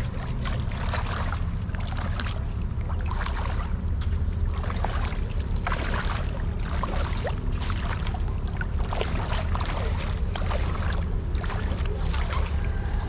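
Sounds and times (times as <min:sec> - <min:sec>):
shallow water splashing: 0:00.0 - 0:13.0
wind rumble on microphone: 0:00.0 - 0:13.0.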